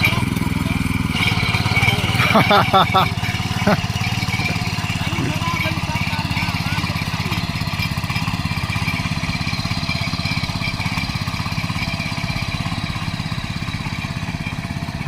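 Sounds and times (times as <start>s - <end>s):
petrol engine running: 0.0s - 15.0s.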